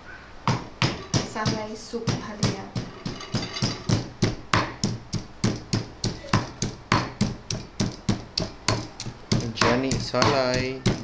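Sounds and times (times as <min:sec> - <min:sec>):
pestle pounding in a mortar: 0:00.5 - 0:11.0.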